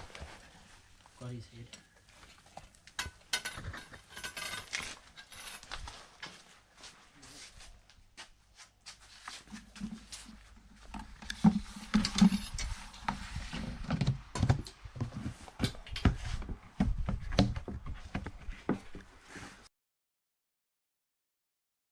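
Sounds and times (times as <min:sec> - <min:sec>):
objects being handled: 0:00.0 - 0:07.6, 0:08.6 - 0:19.7.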